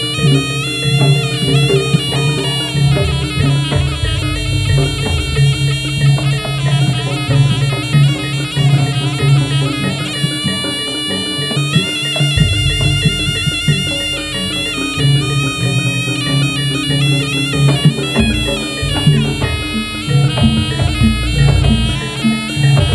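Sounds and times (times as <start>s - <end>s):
drums: 0.0s - 22.9s
shawm wailing melody: 0.0s - 22.9s.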